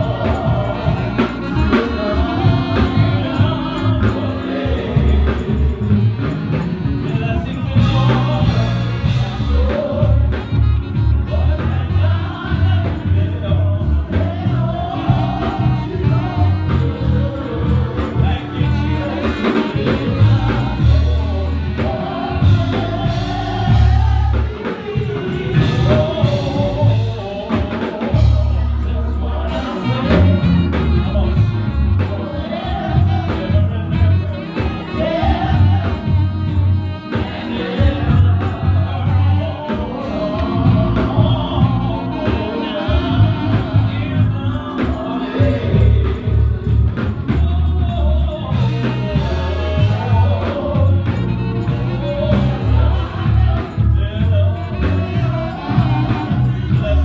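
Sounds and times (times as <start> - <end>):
live gospel music with singing: 0.0 - 57.0
moving bass line: 0.0 - 57.0.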